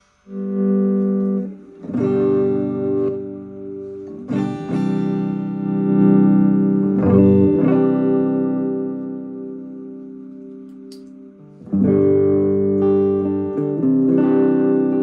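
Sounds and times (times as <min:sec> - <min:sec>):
electric guitar chords strummed: 0:00.2 - 0:15.0.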